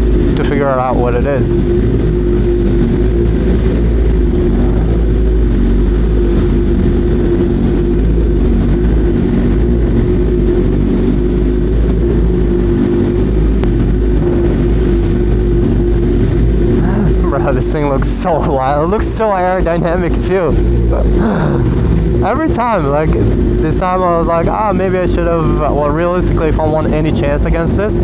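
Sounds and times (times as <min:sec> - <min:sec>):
motorcycle engine running steadily: 0:00.0 - 0:28.0.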